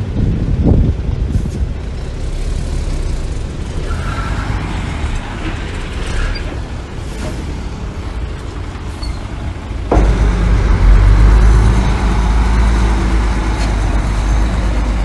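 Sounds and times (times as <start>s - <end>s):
small machine engine rumbling: 1.0s - 15.0s.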